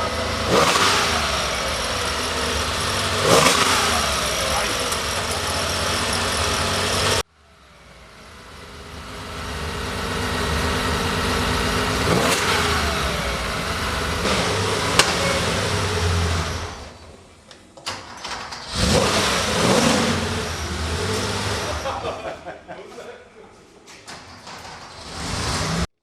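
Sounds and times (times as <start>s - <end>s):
car engine revving: 0.0s - 17.0s, 18.5s - 22.2s, 24.8s - 25.9s.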